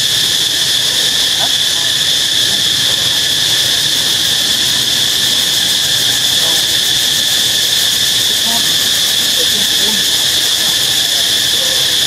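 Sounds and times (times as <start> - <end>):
forest insects droning: 0.0 - 12.0.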